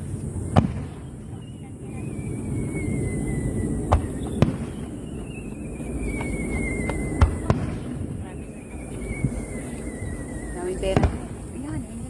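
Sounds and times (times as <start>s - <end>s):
falling firework whistle: 0.0s - 12.0s
firework bangs: 0.0s - 12.0s
low rumble: 0.0s - 12.0s.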